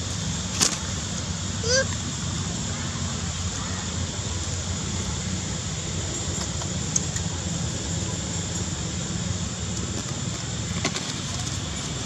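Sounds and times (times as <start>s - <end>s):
continuous high hiss: 0.0s - 12.0s.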